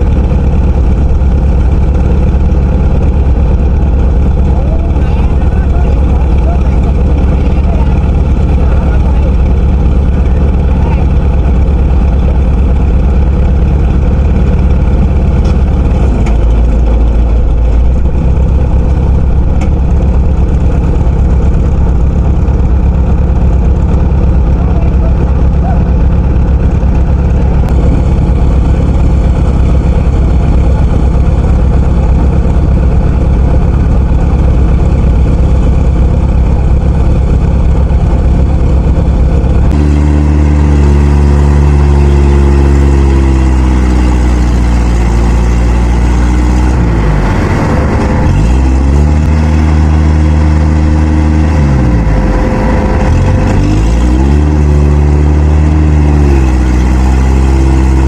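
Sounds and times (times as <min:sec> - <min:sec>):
diesel engine labouring: 0:00.0 - 0:58.0.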